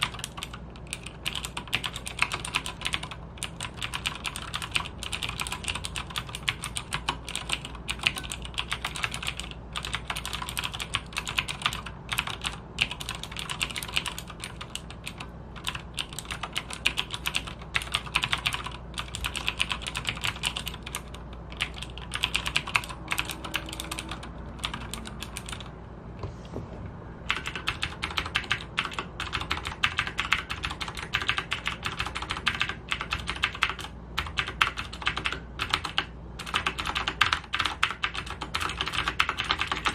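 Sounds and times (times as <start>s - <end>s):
mechanical keyboard typing: 0.0s - 25.7s, 27.3s - 39.9s.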